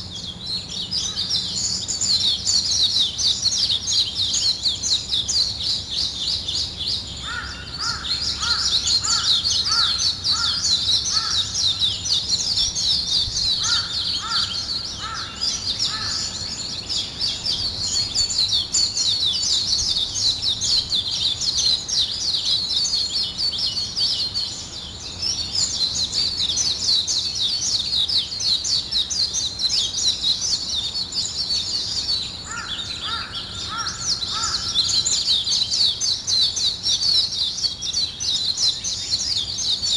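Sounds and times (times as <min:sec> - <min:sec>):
lower bird call: 0:00.0 - 0:38.5
small birds chirping: 0:00.0 - 0:39.9.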